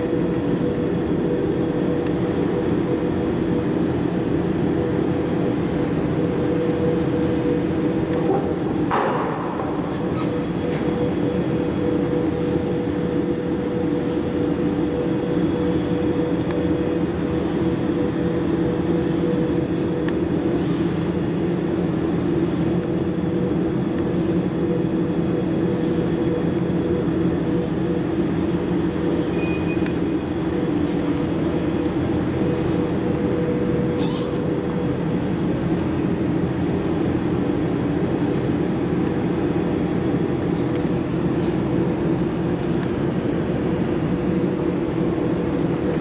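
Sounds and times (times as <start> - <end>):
machinery droning hum: 0.0 - 46.0.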